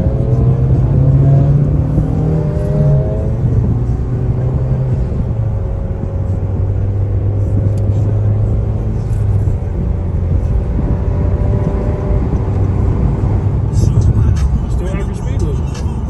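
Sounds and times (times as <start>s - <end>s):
car engine droning: 0.0s - 16.0s
road noise: 0.0s - 16.0s.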